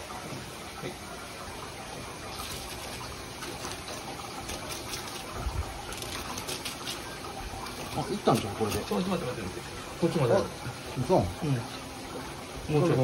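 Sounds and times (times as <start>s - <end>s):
water running from a tap: 0.0s - 13.0s.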